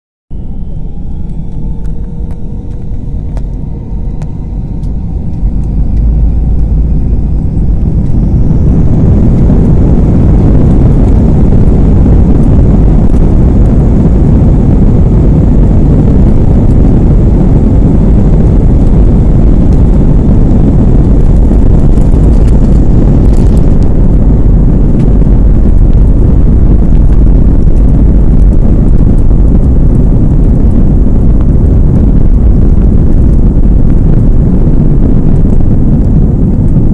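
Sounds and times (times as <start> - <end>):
aircraft engines rumbling: 0.3 - 36.9
faint rising engine whine: 0.3 - 36.9.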